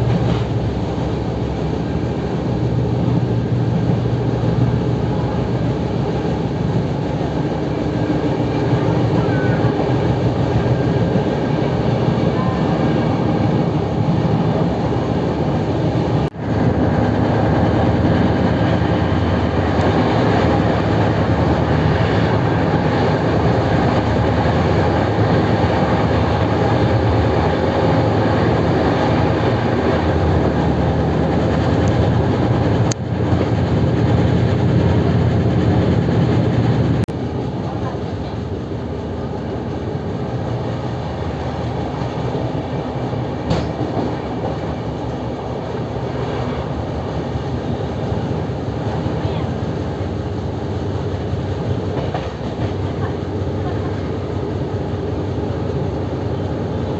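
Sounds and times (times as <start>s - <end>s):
train wheels rolling on rails: 0.0s - 56.9s.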